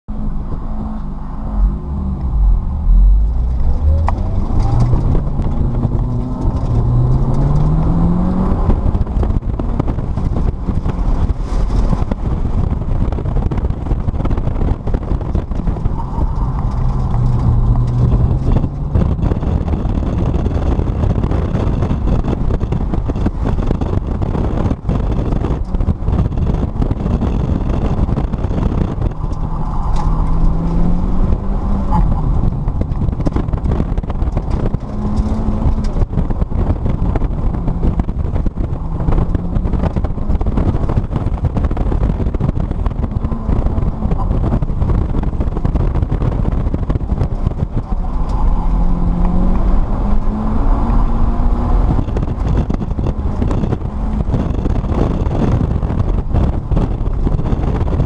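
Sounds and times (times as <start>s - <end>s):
car engine accelerating from inside: 0.1s - 58.0s.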